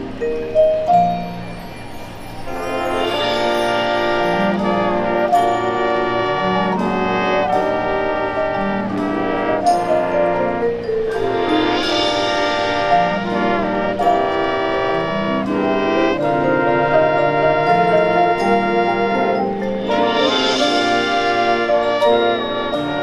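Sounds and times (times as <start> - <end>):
sharp percussion hits: 0.0 - 23.0
brass band sustained chords: 1.3 - 23.0.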